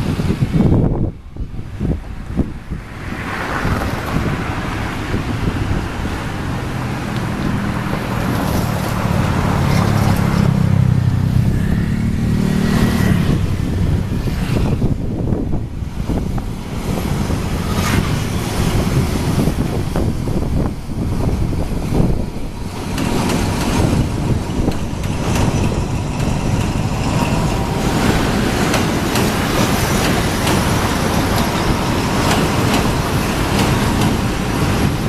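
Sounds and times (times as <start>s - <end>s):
train engine drone: 0.0s - 35.0s
wind on microphone: 0.0s - 35.0s.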